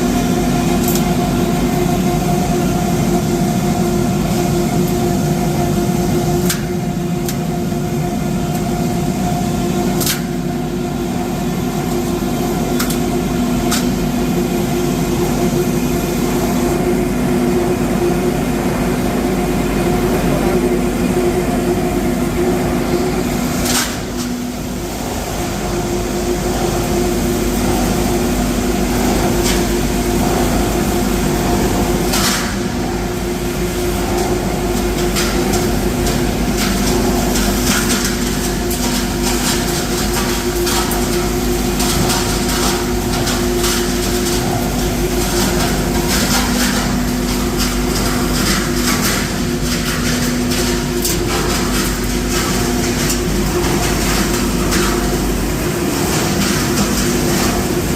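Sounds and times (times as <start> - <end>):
machinery drone and hum: 0.0 - 57.9.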